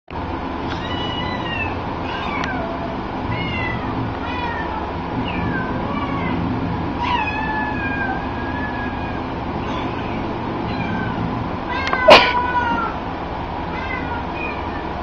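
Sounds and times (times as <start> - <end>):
cat meowing: 0.7 - 6.4, 7.0 - 13.0, 13.7 - 15.0.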